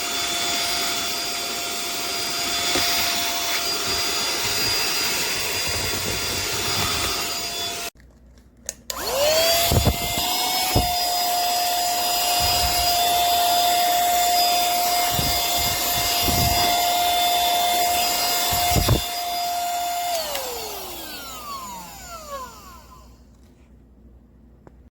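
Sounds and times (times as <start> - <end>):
handheld vacuum whining: 0.0 - 8.0, 8.9 - 23.3.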